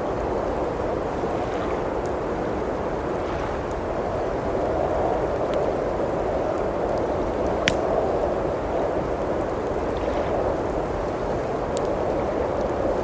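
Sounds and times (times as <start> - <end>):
rushing wind: 0.0 - 13.0
wood fire crackling and popping: 0.0 - 13.0.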